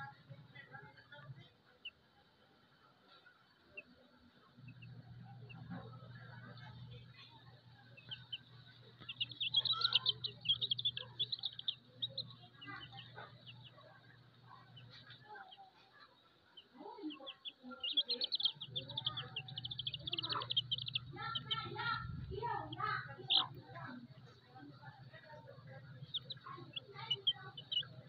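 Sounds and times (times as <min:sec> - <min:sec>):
low steady hum: 0:00.0 - 0:15.9, 0:16.5 - 0:28.0
chicks peeping: 0:00.0 - 0:28.0.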